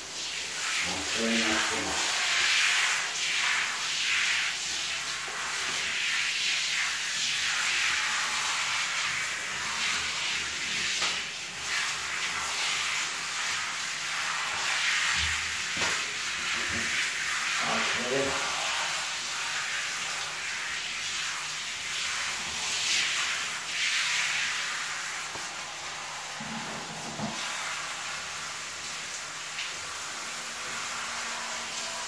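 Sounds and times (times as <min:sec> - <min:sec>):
shower spray on dog fur: 0:00.0 - 0:32.0.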